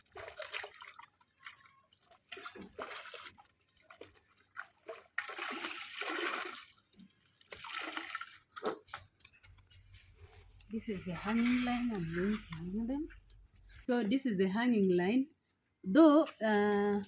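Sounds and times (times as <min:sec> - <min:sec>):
water sloshing and splashing: 0:00.0 - 0:14.2.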